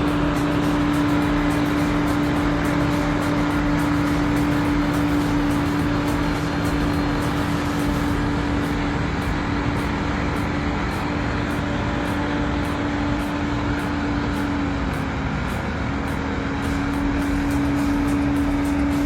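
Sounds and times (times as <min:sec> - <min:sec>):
heavy vehicle engine droning: 0:00.0 - 0:19.0
machinery rumble: 0:00.0 - 0:19.0.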